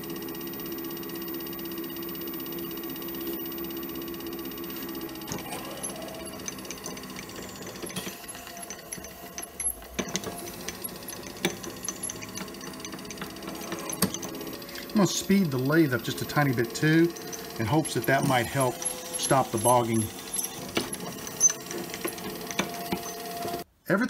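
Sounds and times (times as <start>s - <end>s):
drill boring into plastic: 0.0s - 23.7s
lathe motor humming: 0.0s - 23.7s.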